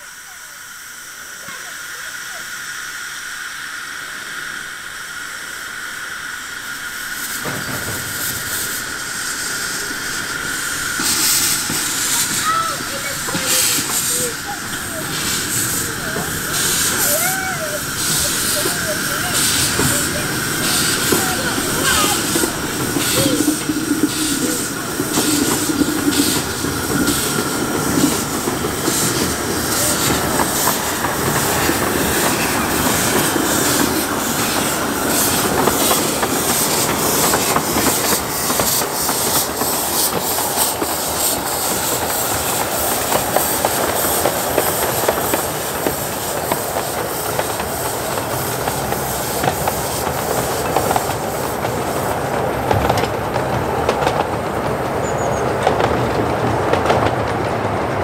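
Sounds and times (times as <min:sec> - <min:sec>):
steam locomotive exhaust beats: 0:00.0 - 0:58.0
train wheels clattering on track: 0:04.2 - 0:58.0.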